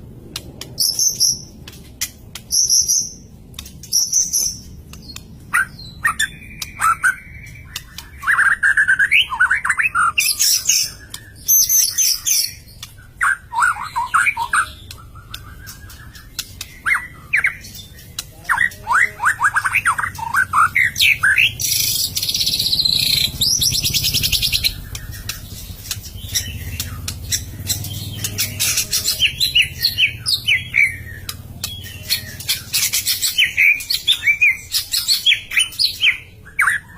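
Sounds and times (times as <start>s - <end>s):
songbird whistling and chattering: 2.3s - 36.9s.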